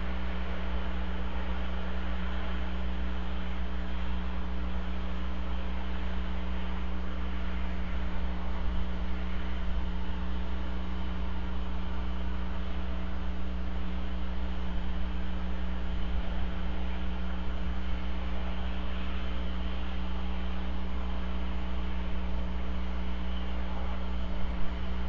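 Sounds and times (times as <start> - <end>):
constant hiss: 0.0 - 25.0
electrical mains hum: 0.0 - 25.0.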